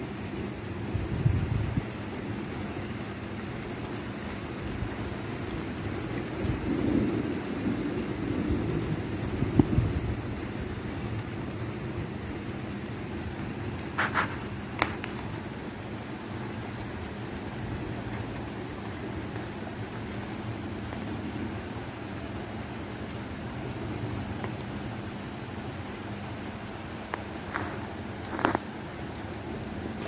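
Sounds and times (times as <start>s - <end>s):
rain falling on wet pavement: 0.0s - 30.0s.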